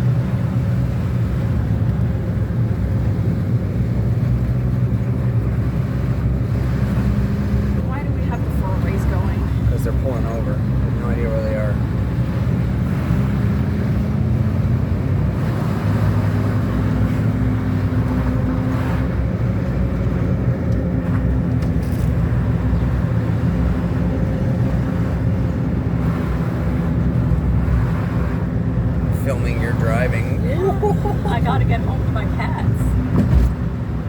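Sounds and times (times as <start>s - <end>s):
car engine from inside cabin: 0.0s - 34.0s
road noise: 0.0s - 34.0s.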